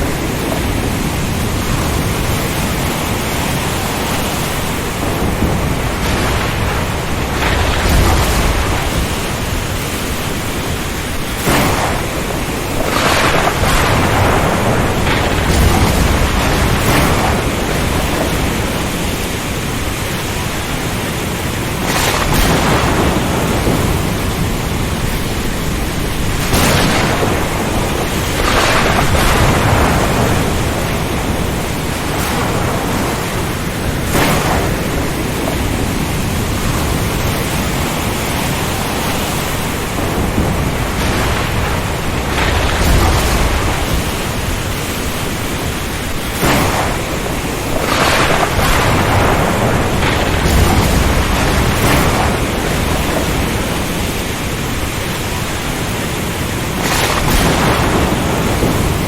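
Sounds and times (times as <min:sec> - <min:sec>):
steady rain: 0:00.0 - 0:59.0
thunder rumbles: 0:00.0 - 0:59.0
wind: 0:00.0 - 0:59.0.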